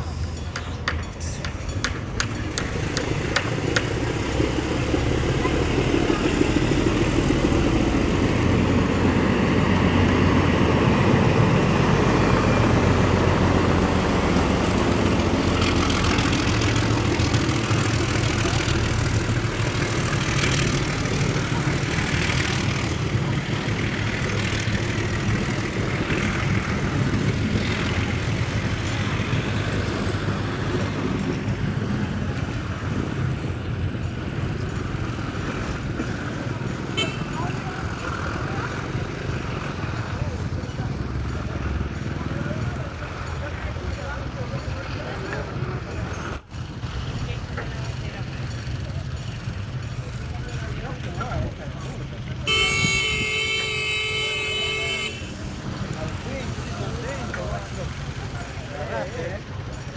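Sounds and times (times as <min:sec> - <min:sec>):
diesel locomotive engine passing: 0:00.0 - 0:59.9
train wheels clicking over rails: 0:00.1 - 0:52.6.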